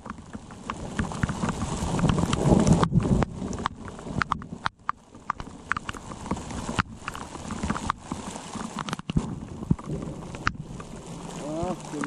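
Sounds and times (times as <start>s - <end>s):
rain falling on a lake: 0.0s - 12.0s
raindrops tapping close by: 0.0s - 12.0s.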